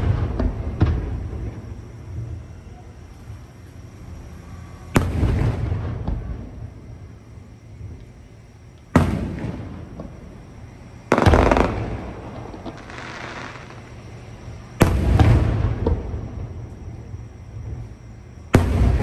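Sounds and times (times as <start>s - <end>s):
fireworks bursting with rumbling echo: 0.0s - 19.0s.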